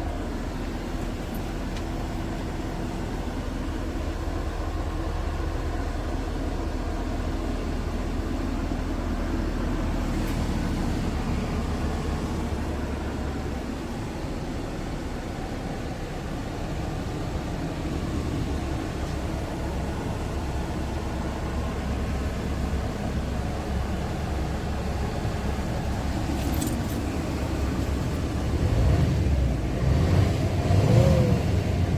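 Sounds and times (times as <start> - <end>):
diesel truck engine rumbling: 0.0 - 31.9.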